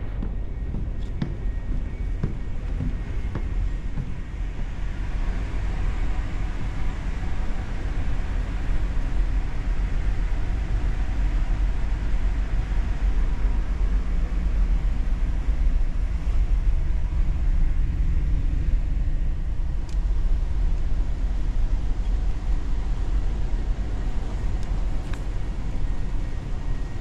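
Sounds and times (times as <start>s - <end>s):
ship engines rumbling: 0.0s - 27.0s.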